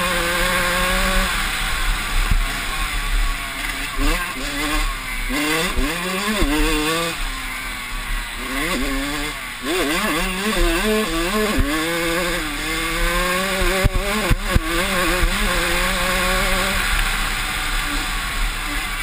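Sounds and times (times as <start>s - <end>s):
two-stroke engine racing: 0.0s - 19.0s.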